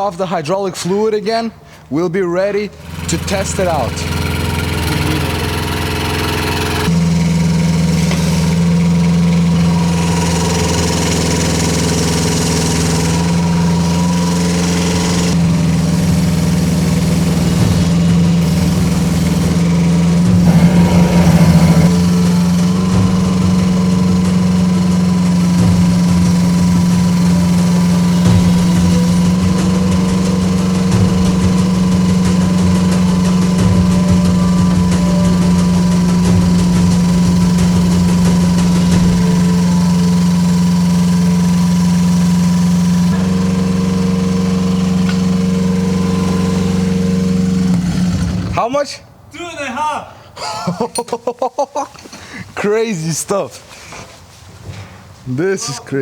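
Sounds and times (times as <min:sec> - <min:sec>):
mini excavator diesel engine: 0:01.7 - 0:48.6.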